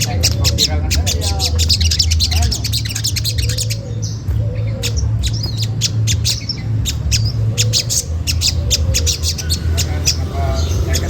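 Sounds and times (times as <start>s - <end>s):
bird chip calls: 0.0s - 11.0s
steady low hum: 0.0s - 11.0s.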